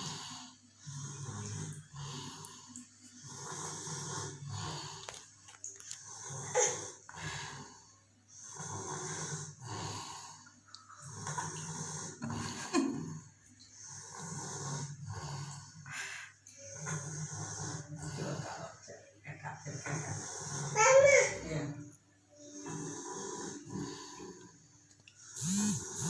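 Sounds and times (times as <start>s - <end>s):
toddler snoring: 0.0s - 26.0s.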